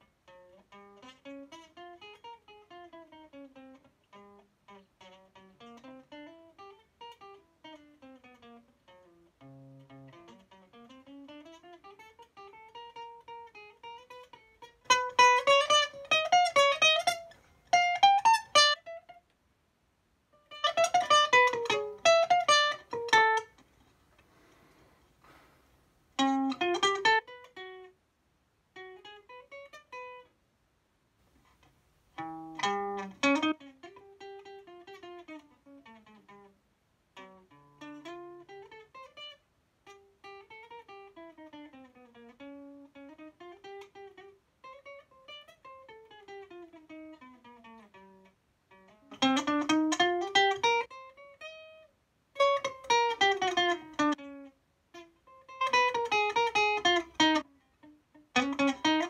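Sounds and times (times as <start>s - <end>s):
acoustic guitar playing: 0.0s - 19.2s, 20.4s - 23.6s, 26.2s - 28.0s, 32.2s - 59.0s.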